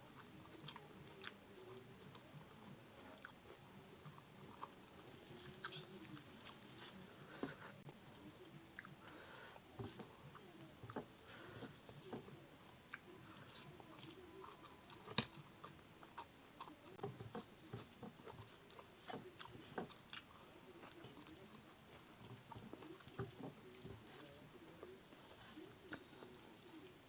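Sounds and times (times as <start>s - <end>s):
wet chewing and lip smacking: 4.0s - 27.0s.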